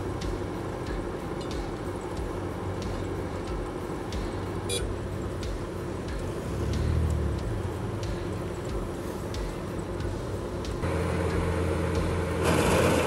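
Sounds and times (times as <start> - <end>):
harvester diesel engine humming: 0.0 - 13.0.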